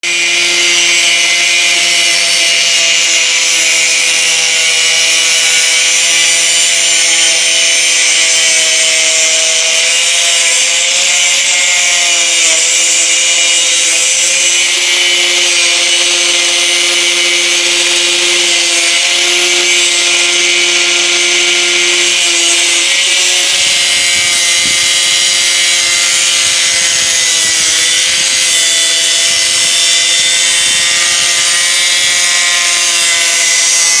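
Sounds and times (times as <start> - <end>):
electric cutting tool running: 0.0 - 34.0.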